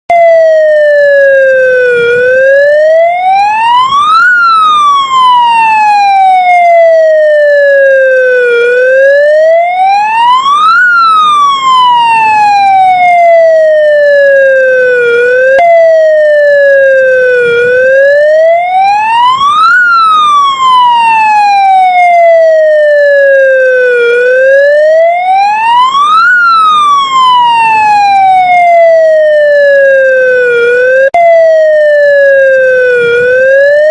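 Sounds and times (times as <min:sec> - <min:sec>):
ambulance siren wailing: 0:00.1 - 0:33.9.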